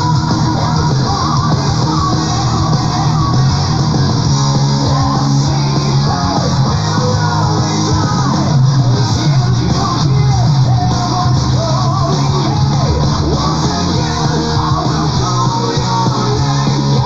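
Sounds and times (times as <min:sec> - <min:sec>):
bass: 0:00.0 - 0:17.0
distorted guitars: 0:00.0 - 0:17.0
drums: 0:00.0 - 0:17.0
high melodic lead line: 0:00.0 - 0:17.0.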